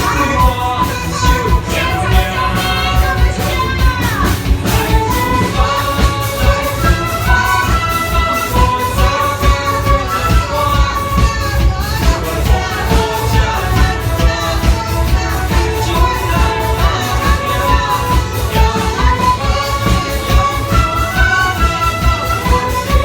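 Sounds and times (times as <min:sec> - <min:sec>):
orchestra playing: 0:00.0 - 0:23.0.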